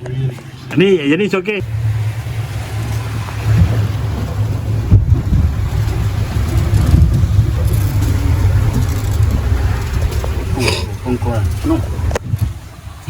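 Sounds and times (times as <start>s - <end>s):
boat engine rumbling: 0.0s - 13.0s
wind buffeting microphone: 1.6s - 13.0s.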